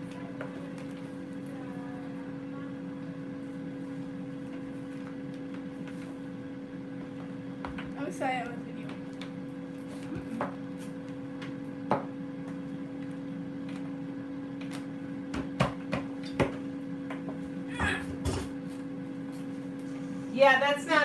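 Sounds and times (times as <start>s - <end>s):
kitchen appliance humming: 0.0s - 21.0s.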